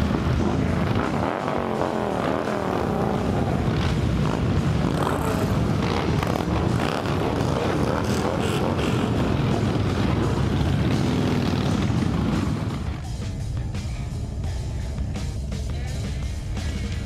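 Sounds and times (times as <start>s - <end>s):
many vehicle engines running: 0.0s - 17.0s.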